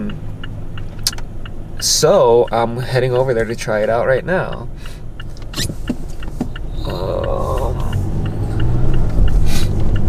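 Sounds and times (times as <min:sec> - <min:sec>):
engine and tyre rumble: 0:00.0 - 0:10.0
fast even ticking: 0:00.0 - 0:10.0.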